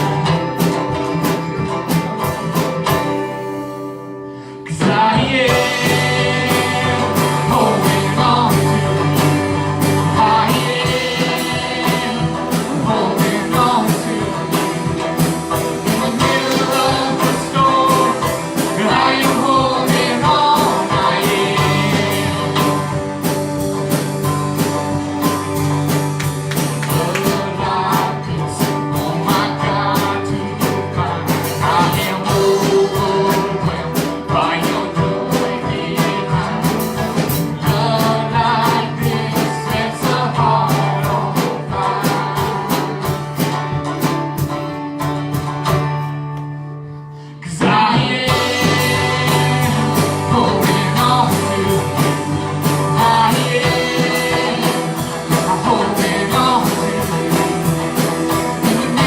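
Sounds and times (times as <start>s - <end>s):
steady drum beat: 0.0s - 4.0s, 4.7s - 46.4s, 47.6s - 59.0s
person singing: 0.0s - 45.8s, 47.1s - 59.0s
guitar: 0.0s - 59.0s
worship band playing upbeat song: 0.0s - 59.0s.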